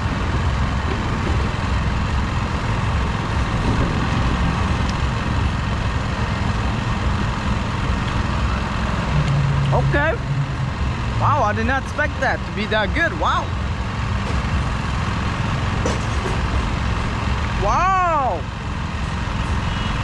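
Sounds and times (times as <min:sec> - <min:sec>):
busy street noise: 0:00.0 - 0:20.0
vehicle engine idling: 0:00.0 - 0:20.0.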